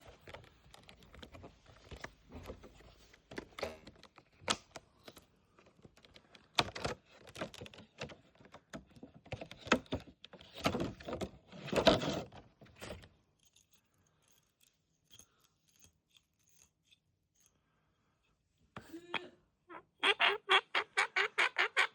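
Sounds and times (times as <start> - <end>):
small clicks and knocks: 0.0 - 17.6.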